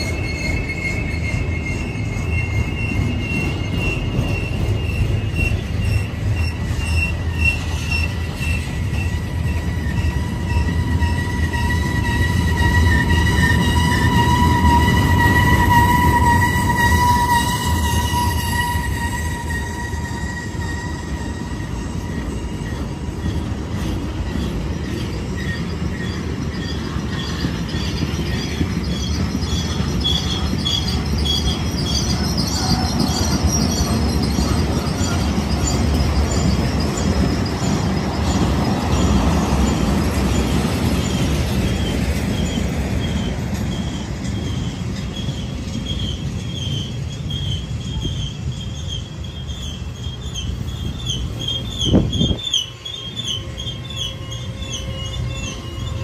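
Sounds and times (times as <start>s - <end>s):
freight train rumbling: 0.0s - 56.0s
train wheels squealing: 0.0s - 56.0s.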